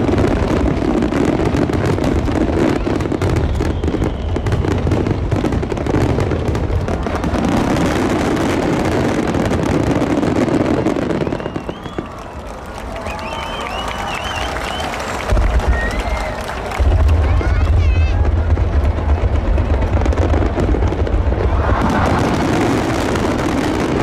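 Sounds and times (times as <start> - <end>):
crowd voices: 0.0 - 24.0
fireworks booming and crackling: 0.0 - 24.0.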